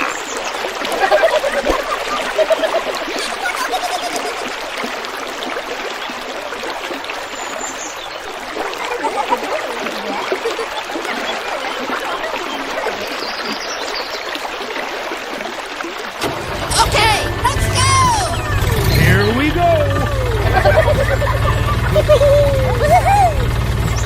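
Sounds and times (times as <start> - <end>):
stream water trickling: 0.0 - 24.0.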